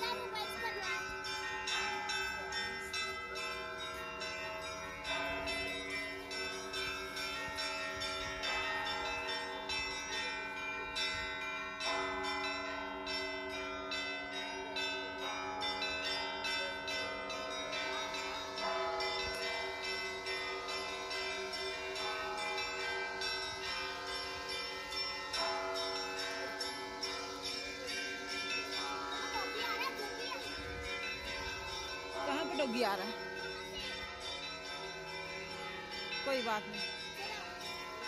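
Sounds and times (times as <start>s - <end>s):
small church bells ringing: 0.0s - 38.0s.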